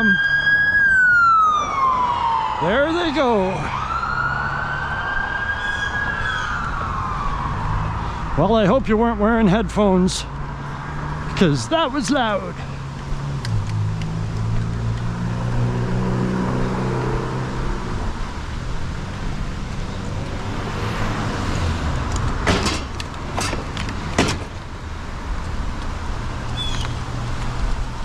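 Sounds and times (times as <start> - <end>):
traffic noise: 0.0 - 28.0.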